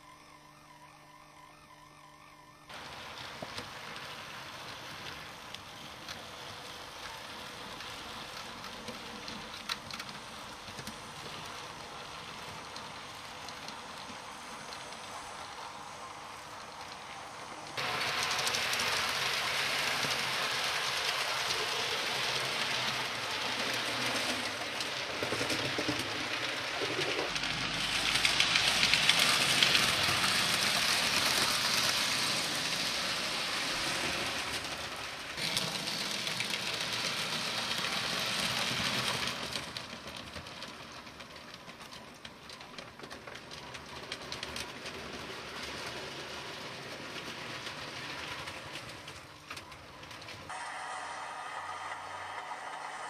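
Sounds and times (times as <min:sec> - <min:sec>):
model train rattling on track: 0:02.7 - 0:53.0.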